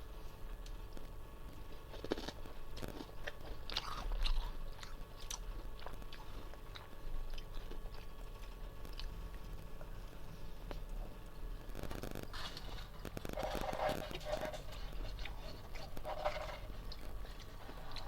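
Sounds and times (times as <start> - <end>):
frost being chewed crunching: 0.1 - 18.0.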